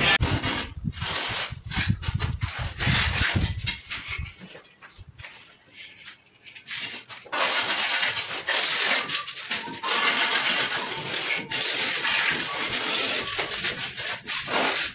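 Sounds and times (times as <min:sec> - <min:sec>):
hand tool scraping concrete: 0:00.0 - 0:04.4, 0:05.8 - 0:14.9.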